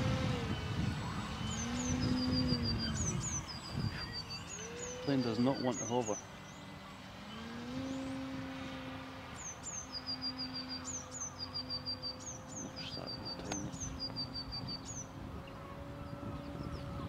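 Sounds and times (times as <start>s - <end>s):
model plane motor hum: 0.0s - 17.0s
songbird singing: 0.0s - 17.0s.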